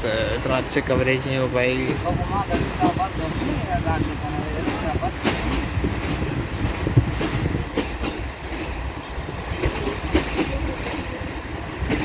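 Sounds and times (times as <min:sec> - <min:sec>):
train rumbling on track: 0:00.0 - 0:12.0
wheels clicking over rails: 0:00.2 - 0:12.0.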